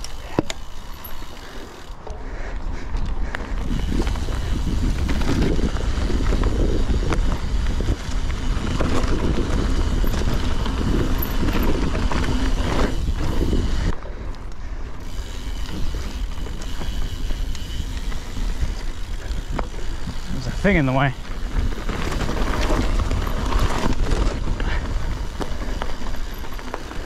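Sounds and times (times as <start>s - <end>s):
bike rattles and knocks: 0.0s - 2.2s, 3.0s - 14.2s, 15.0s - 27.0s
wind buffeting microphone: 2.4s - 27.0s.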